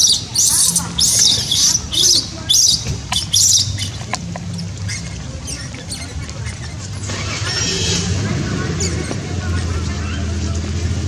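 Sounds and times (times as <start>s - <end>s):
baby monkey squealing: 0.0s - 9.2s.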